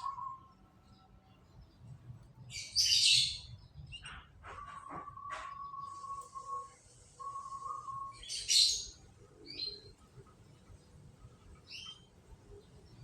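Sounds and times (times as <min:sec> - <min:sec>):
canaries chirping: 0:00.0 - 0:01.0, 0:01.6 - 0:13.0.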